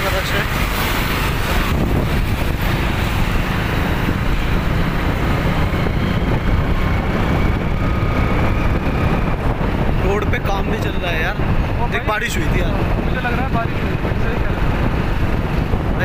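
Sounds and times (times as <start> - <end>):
road noise: 0.0 - 16.0
vehicle engine: 0.0 - 16.0
wind buffeting microphone: 0.0 - 16.0.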